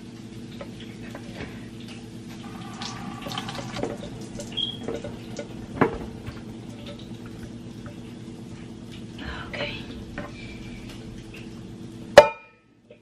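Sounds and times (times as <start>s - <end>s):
water pouring into a sink: 0.0s - 12.2s
steady low hum: 0.0s - 13.0s.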